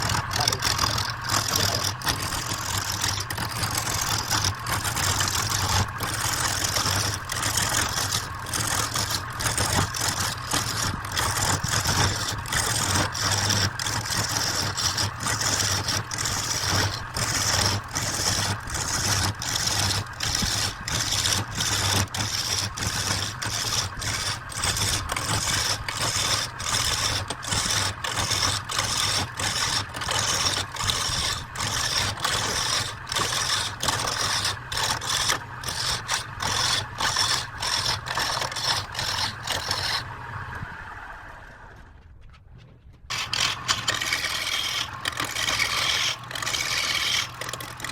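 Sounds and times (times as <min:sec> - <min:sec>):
turning tool cutting wood: 0:00.0 - 0:40.7, 0:43.1 - 0:47.9
wood lathe humming: 0:00.0 - 0:40.7, 0:43.1 - 0:47.9.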